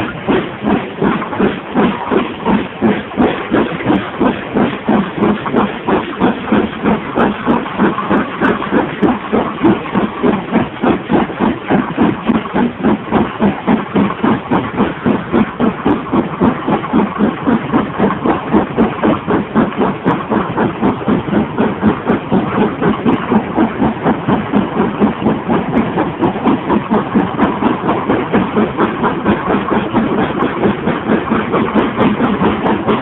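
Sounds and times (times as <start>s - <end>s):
steam locomotive exhaust chuffing: 0.0s - 33.0s.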